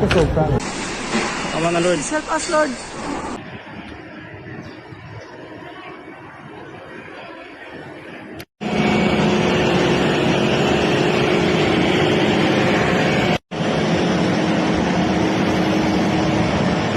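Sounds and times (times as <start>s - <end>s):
machine drone: 0.6s - 16.9s.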